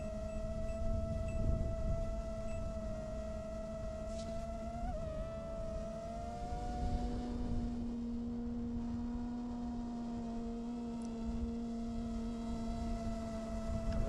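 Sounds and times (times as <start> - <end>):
drone motors whining: 0.0 - 14.0
low wind rumble: 0.0 - 14.0.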